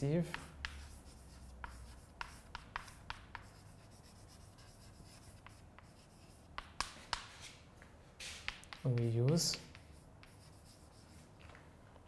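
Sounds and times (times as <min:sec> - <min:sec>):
chalk tapping on blackboard: 0:00.1 - 0:07.6, 0:08.2 - 0:11.2.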